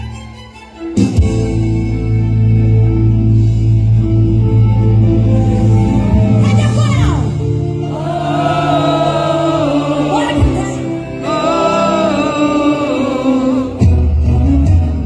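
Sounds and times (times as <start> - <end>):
live gospel music: 0.0 - 15.0.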